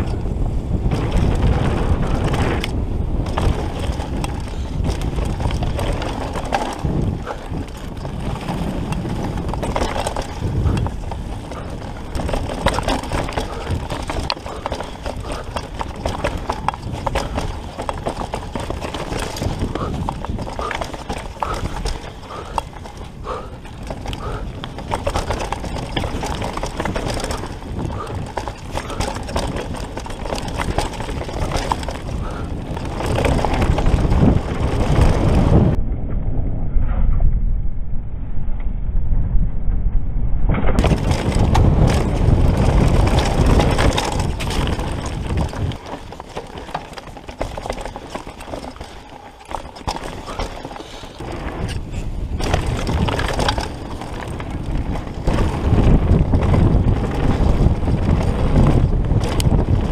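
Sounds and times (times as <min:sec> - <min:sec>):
bike knocking and rattling: 0:00.0 - 0:35.8, 0:40.6 - 0:59.9
tyres crunching over dirt: 0:00.0 - 0:35.8, 0:40.8 - 0:59.9
wind buffeting microphone: 0:00.0 - 0:59.9.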